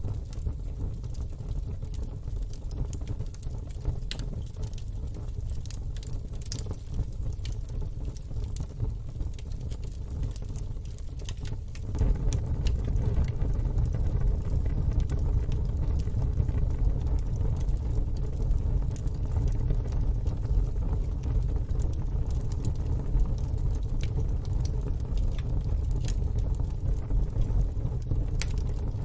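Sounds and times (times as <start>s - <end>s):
low fire rumble: 0.0s - 29.0s
wood fire crackling and popping: 0.0s - 29.0s.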